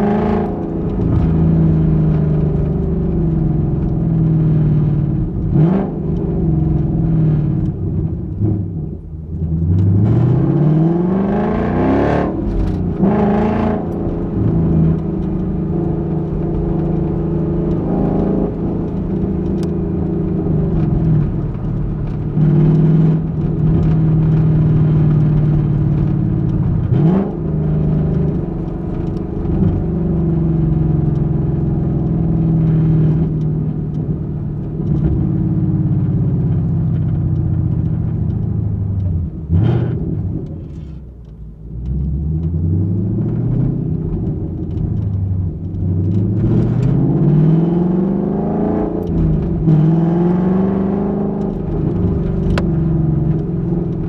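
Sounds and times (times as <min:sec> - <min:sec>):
car engine accelerating and shifting: 0:00.0 - 0:54.0.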